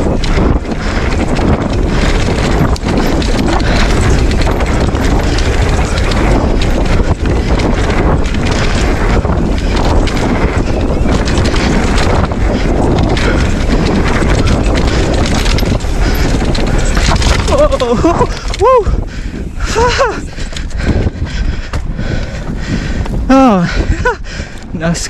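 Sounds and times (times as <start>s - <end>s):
bike clattering over trail: 0.0s - 24.5s
wind noise on microphone: 0.0s - 25.0s.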